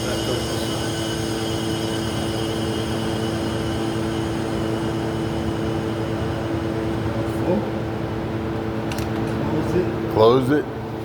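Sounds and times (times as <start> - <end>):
machine droning: 0.0 - 11.0.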